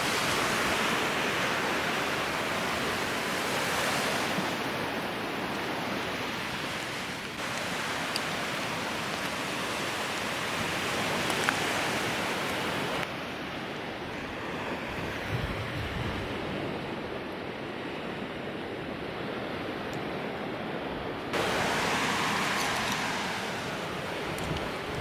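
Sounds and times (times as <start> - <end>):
ocean surf washing onto beach: 0.0 - 25.0.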